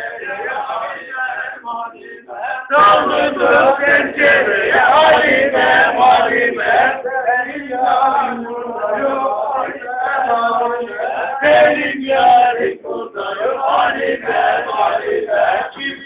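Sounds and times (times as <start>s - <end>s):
men singing in unison: 0.0s - 16.0s.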